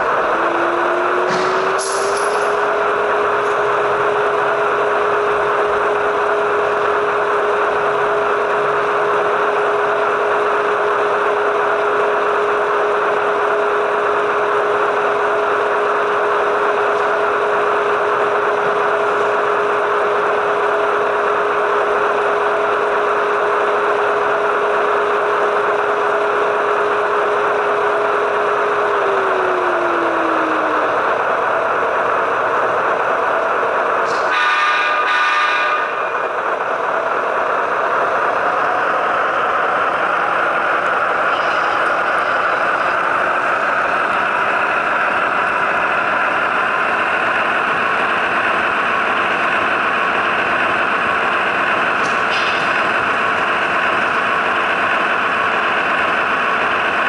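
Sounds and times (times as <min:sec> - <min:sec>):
diesel engine sound from speakers: 0:00.0 - 0:57.0.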